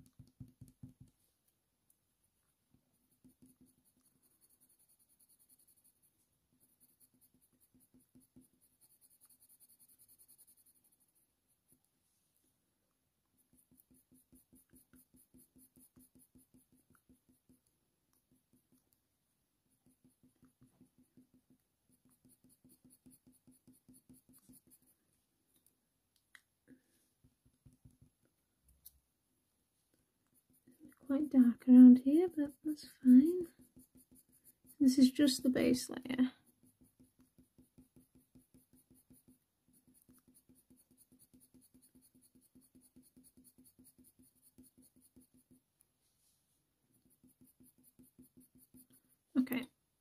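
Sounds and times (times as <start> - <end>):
pencil scratching on paper: 2.7 - 12.5, 13.2 - 19.0, 19.6 - 25.0, 26.8 - 28.3, 30.2 - 49.6.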